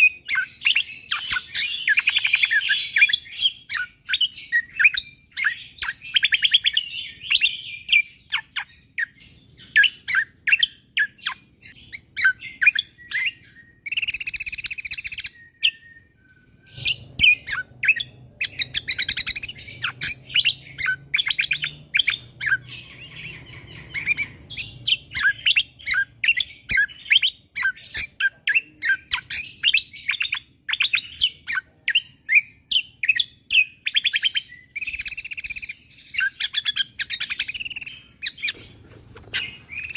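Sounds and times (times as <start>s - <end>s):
bird singing rapid chirps: 0.0s - 39.9s.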